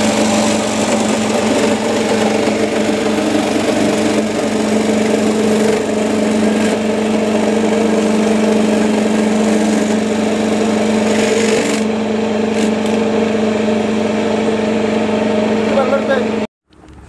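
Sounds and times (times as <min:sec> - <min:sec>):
grinding machine motor hum: 0:00.0 - 0:16.5.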